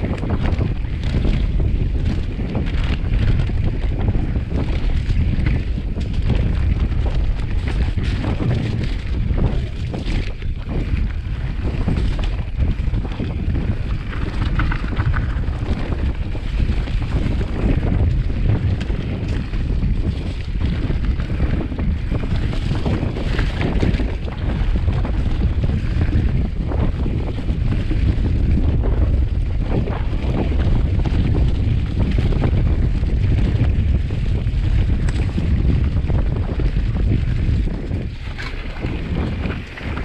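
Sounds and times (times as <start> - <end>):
bike rattles and knocks: 0.0 - 40.0
continuous low rumble: 0.0 - 40.0
wind buffeting microphone: 0.0 - 40.0.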